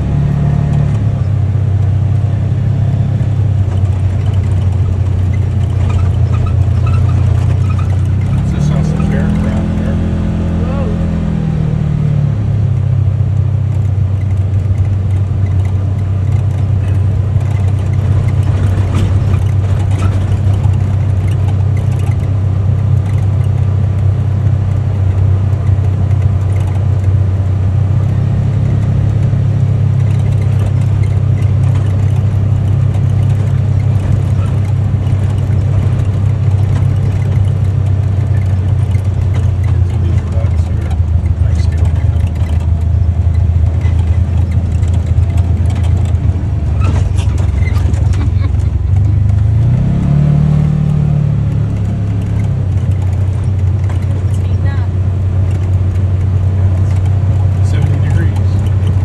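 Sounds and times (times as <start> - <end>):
utility vehicle engine droning: 0.0 - 59.0.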